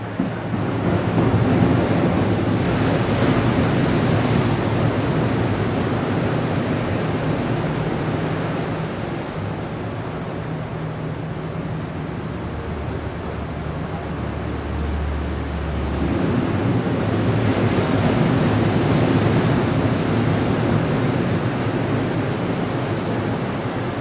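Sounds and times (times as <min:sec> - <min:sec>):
ocean surf washing onto beach: 0:00.0 - 0:24.0.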